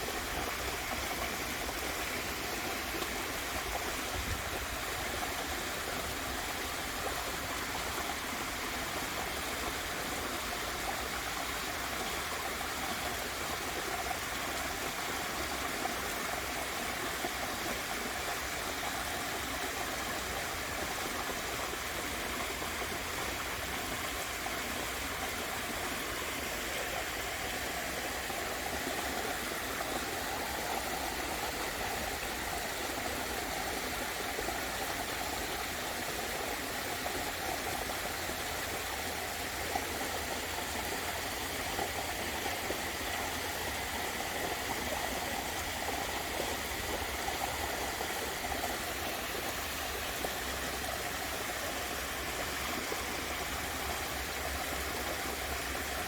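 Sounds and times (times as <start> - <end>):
waterfall and stream splashing: 0.0 - 56.0.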